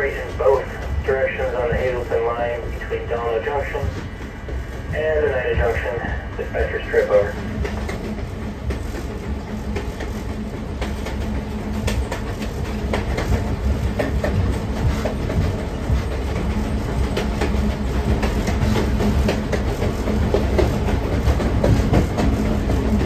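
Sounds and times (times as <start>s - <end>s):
train rumble and hum: 0.0s - 23.0s.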